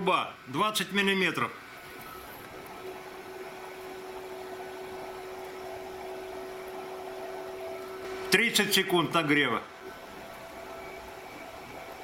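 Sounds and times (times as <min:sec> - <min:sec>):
steady hum tone: 0:01.3 - 0:12.0.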